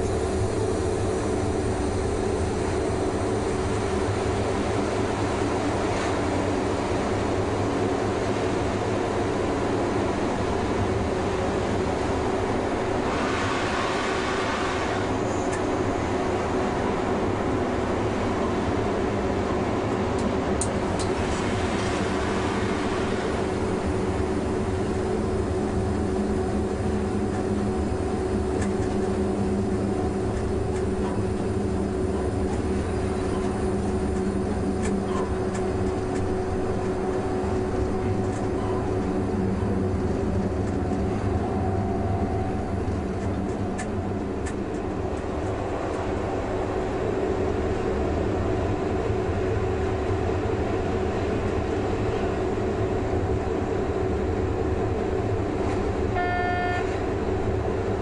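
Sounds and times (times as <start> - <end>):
locomotive hum: 0.0 - 58.0
train running gear rumble: 0.0 - 58.0.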